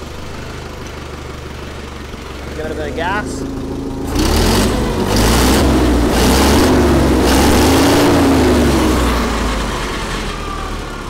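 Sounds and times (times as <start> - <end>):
forklift engine revving: 0.0 - 11.0.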